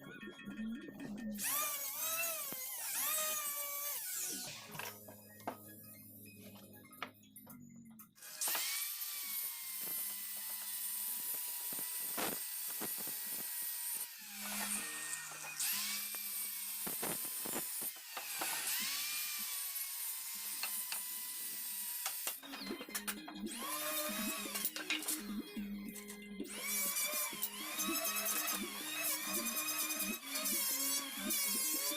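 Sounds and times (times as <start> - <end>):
power tool cutting wood: 1.4 - 5.7, 8.2 - 31.9.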